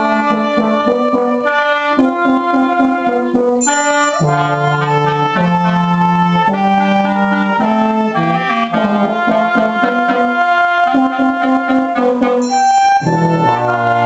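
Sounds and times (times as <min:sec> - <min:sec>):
wind ensemble playing slow piece: 0:00.0 - 0:14.0.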